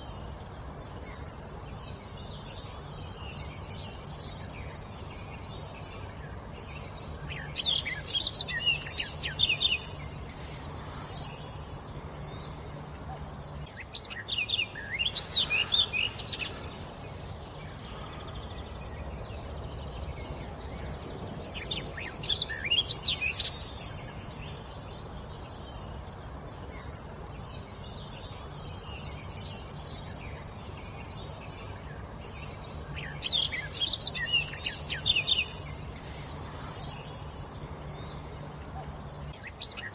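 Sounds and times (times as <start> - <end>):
faint low hum: 0.0 - 39.9
songbird singing: 0.0 - 39.9.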